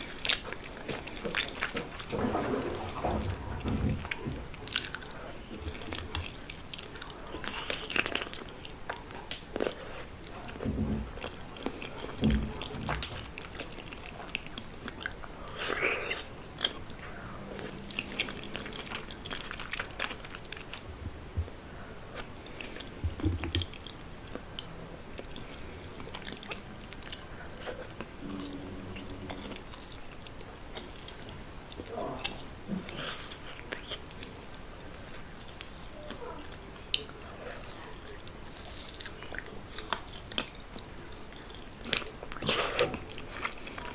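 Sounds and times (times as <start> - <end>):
person chewing: 0.0 - 43.9.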